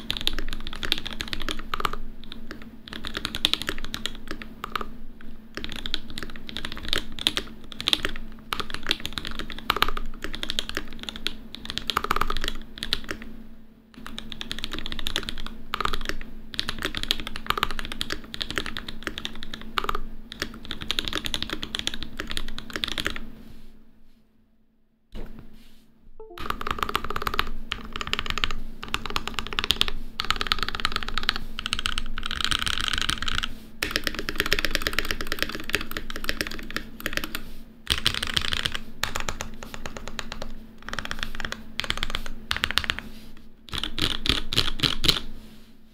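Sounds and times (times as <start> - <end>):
mechanical keyboard typing: 0.0 - 13.3, 14.0 - 23.3, 26.2 - 43.1, 43.7 - 45.3.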